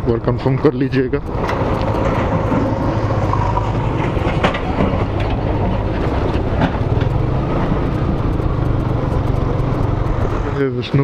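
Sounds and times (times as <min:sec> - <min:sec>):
motorcycle engine running: 0:01.3 - 0:10.8
rattles and knocks from bumpy road: 0:01.3 - 0:11.0.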